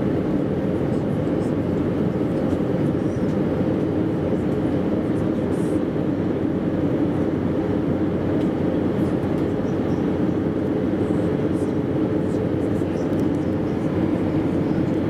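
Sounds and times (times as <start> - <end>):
airplane cabin engine roar: 0.0 - 15.0.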